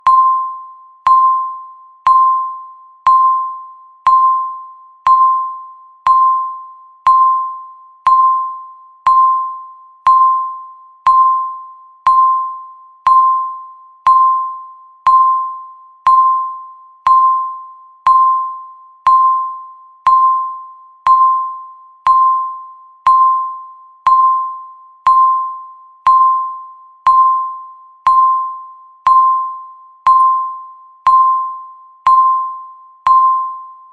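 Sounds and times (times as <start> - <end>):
chime tone: 0.0 - 33.9.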